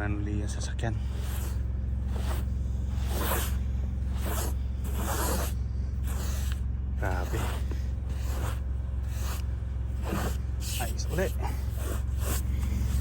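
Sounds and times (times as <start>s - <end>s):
steady low hum: 0.0s - 13.0s
brush sweeping snow off car: 1.0s - 13.0s.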